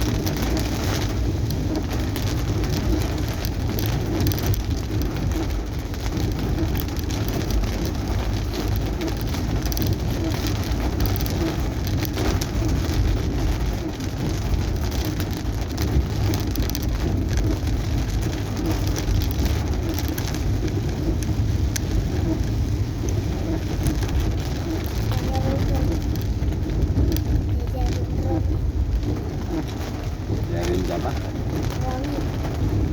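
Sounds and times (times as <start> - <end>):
car driving rumble: 0.0 - 32.9
rain pattering on car roof: 0.0 - 32.9.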